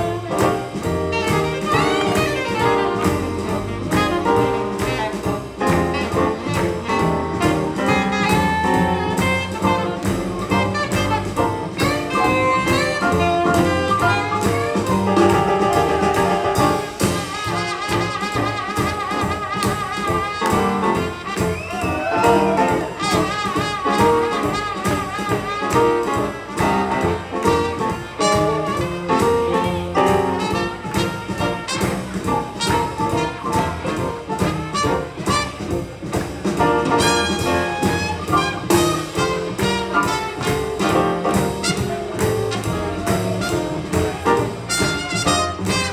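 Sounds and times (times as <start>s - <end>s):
swing jazz band playing: 0.0s - 45.9s.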